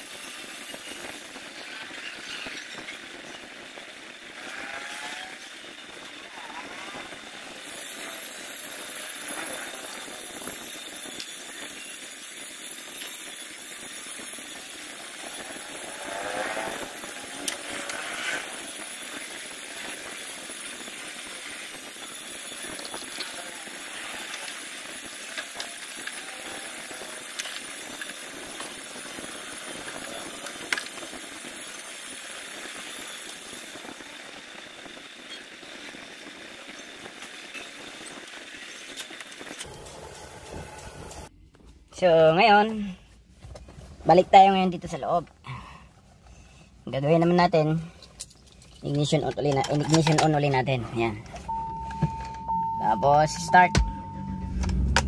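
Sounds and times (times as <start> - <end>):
faint high whine: 0.0 - 41.4, 49.3 - 55.0.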